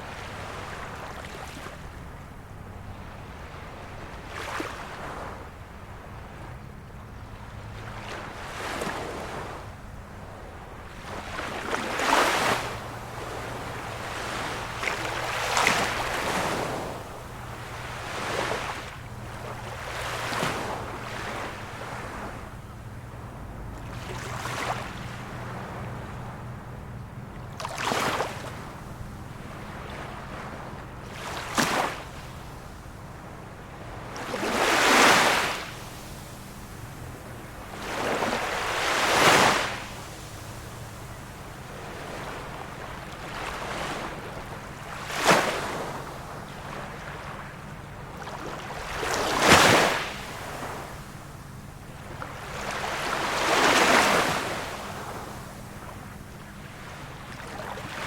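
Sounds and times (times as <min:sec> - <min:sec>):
small waves splashing: 0:00.0 - 0:58.0.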